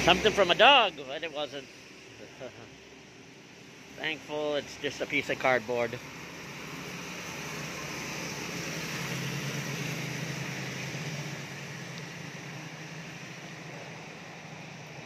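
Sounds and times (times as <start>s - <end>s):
steady hiss: 0.0s - 15.0s
tyres hissing on wet road: 0.0s - 15.0s
vehicle engine hum: 0.0s - 15.0s.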